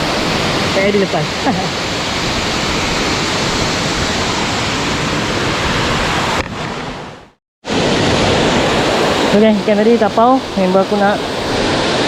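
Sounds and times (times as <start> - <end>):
waterfall rushing: 0.0 - 7.1, 7.7 - 12.0.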